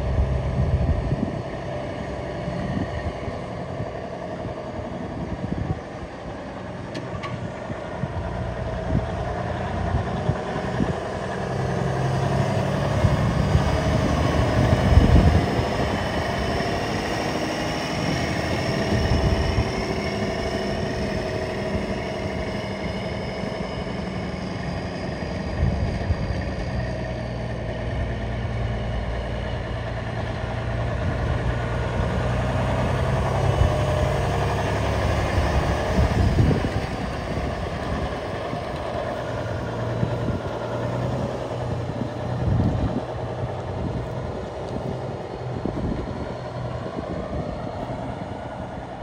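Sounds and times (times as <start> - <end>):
truck diesel engine running: 0.0 - 49.0.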